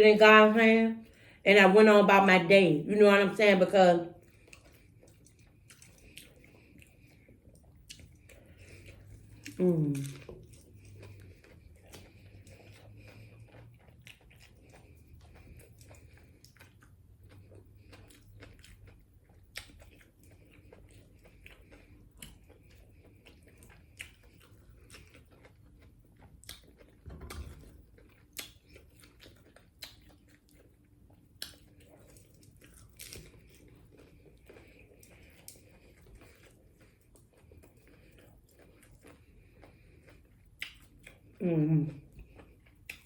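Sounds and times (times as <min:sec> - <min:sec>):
chewing and biting tacos: 0:04.1 - 0:43.0.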